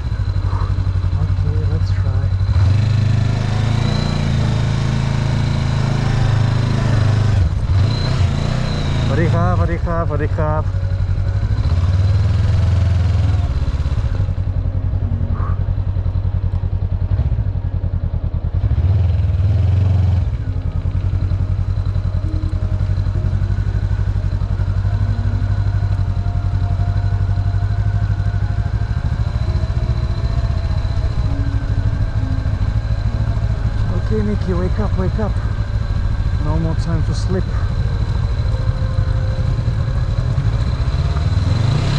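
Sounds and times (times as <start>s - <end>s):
motorbike engine running: 0.0s - 41.9s.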